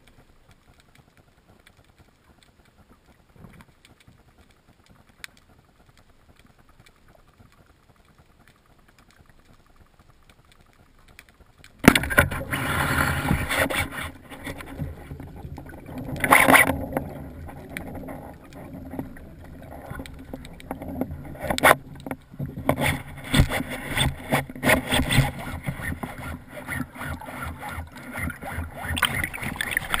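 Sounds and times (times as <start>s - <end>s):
underwater rushing and knocking: 0.0s - 30.0s.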